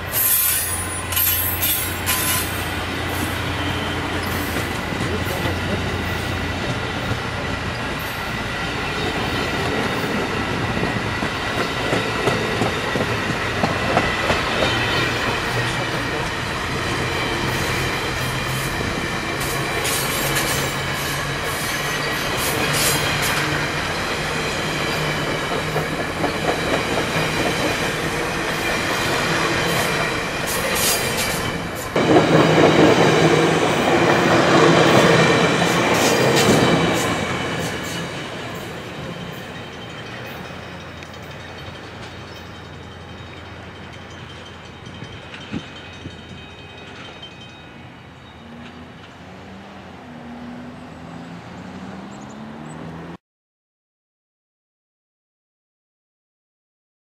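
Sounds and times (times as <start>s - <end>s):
train wheels clicking over rail joints: 0.0s - 47.4s.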